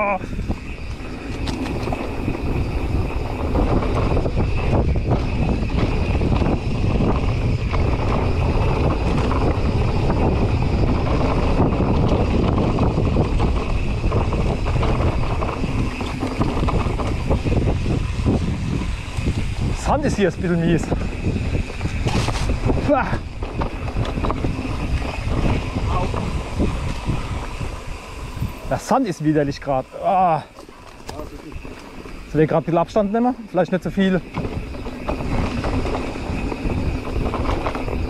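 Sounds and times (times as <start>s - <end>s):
bike clicks and rattles: 0.0s - 38.0s
wind rush on microphone: 0.0s - 38.0s.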